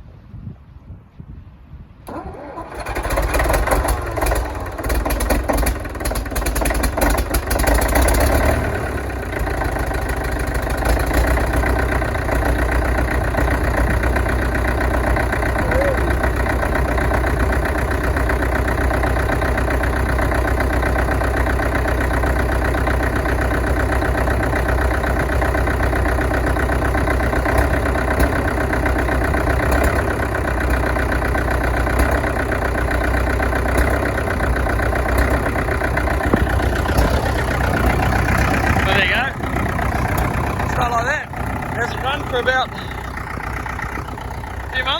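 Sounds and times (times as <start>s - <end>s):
diesel engine idling: 2.1s - 44.9s.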